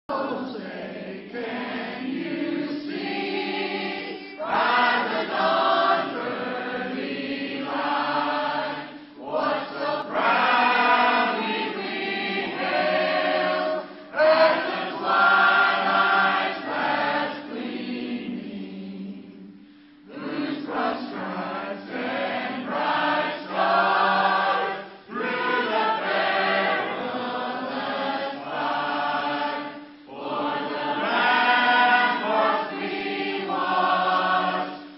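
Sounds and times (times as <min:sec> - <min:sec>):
church choir singing: 0:00.1 - 0:34.9.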